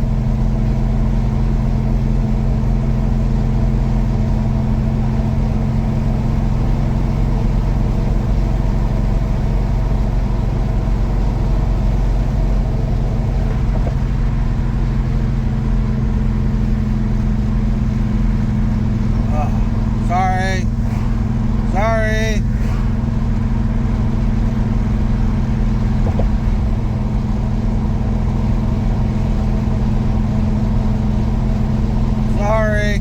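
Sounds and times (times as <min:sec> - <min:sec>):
car engine and exhaust drone: 0:00.0 - 0:33.0.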